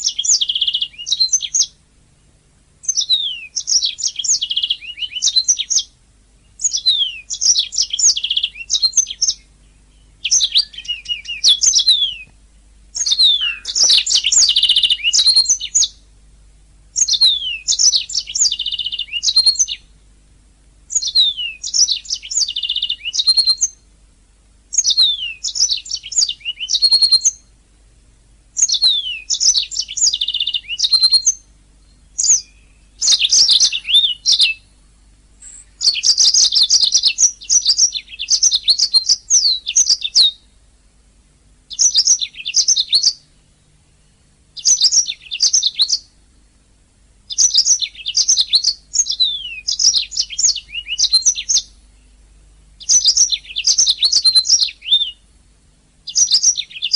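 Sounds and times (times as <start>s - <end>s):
canary singing: 0.0s - 1.8s, 2.8s - 16.0s, 16.9s - 20.0s, 20.9s - 23.9s, 24.7s - 27.6s, 28.6s - 40.6s, 41.7s - 46.5s, 47.3s - 52.2s, 52.8s - 55.3s, 56.0s - 56.9s.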